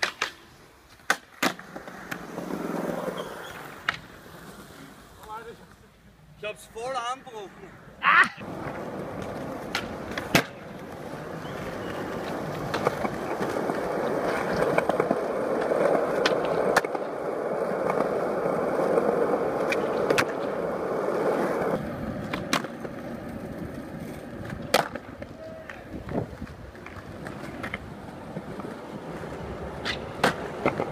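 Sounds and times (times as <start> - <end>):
skateboard clacking on ground: 0.0 - 4.1, 8.4 - 30.9
skateboard wheels rolling on concrete: 0.0 - 30.9.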